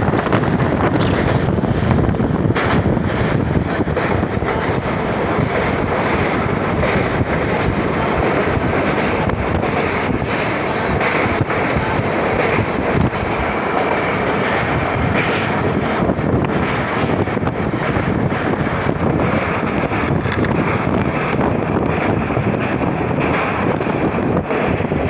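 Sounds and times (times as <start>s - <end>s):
train rumbling over bridge: 0.0s - 25.0s
wind buffeting microphone: 0.0s - 25.0s.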